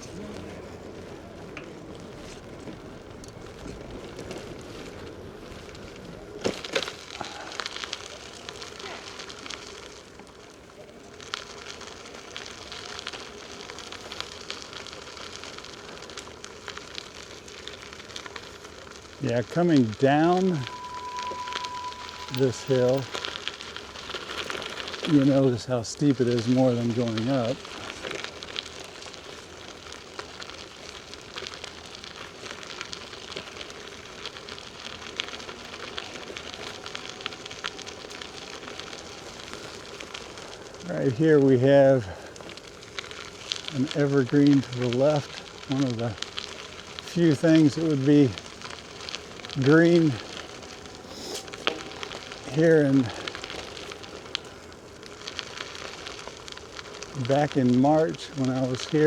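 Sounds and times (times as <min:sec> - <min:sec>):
bicycle tyres on rough trail: 0:00.0 - 0:59.0
small crackles and ticks: 0:00.0 - 0:59.0.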